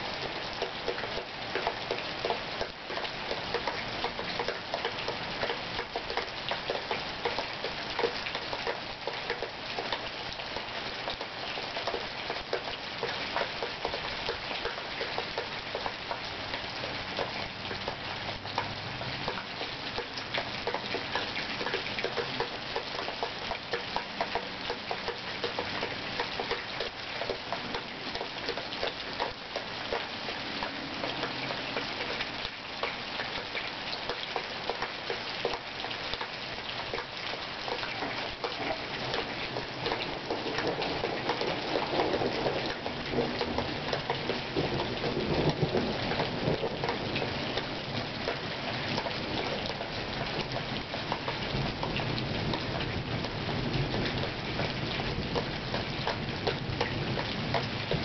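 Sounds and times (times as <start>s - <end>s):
steady rain patter: 0.0s - 58.0s.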